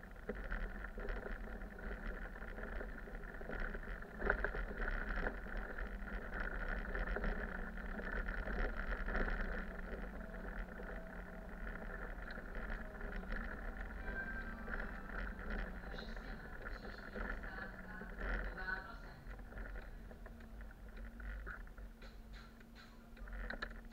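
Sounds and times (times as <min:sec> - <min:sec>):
bus engine and road noise: 0:00.0 - 0:23.9
light rattles: 0:00.0 - 0:23.9.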